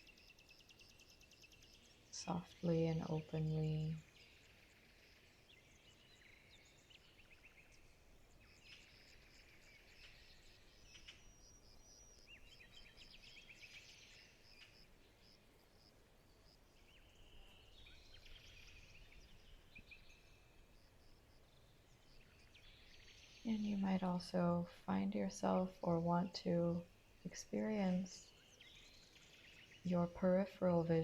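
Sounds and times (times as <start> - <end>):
birds chirping and trilling: 0.0 - 15.4, 16.6 - 20.8, 21.4 - 31.0.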